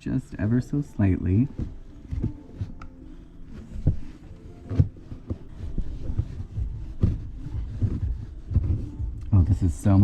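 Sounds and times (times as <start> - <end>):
air filter handling thumps: 1.2 - 10.0.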